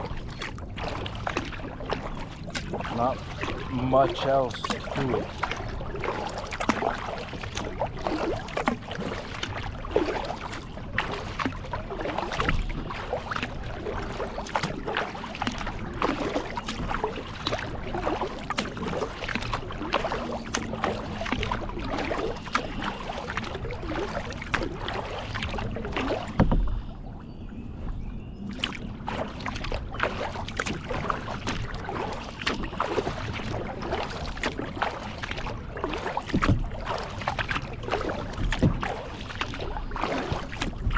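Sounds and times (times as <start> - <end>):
kayak paddle splashing in water: 0.0 - 27.2, 28.4 - 40.9
splashes against hull: 0.0 - 27.2, 28.4 - 40.9.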